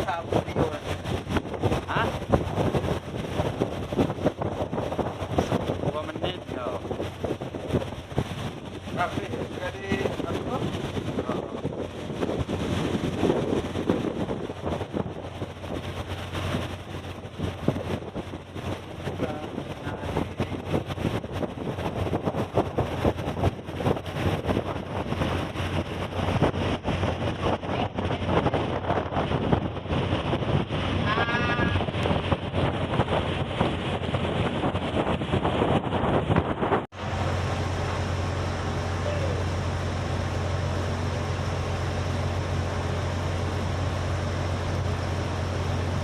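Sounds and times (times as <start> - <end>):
ship engine hum: 0.0 - 46.0
wind buffeting microphone: 0.0 - 46.0.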